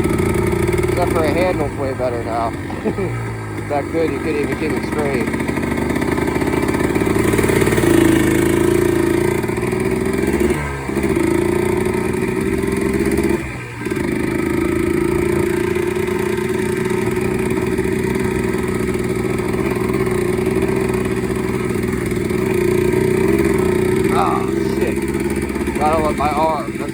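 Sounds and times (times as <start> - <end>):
two-stroke engine running: 0.0 - 26.9.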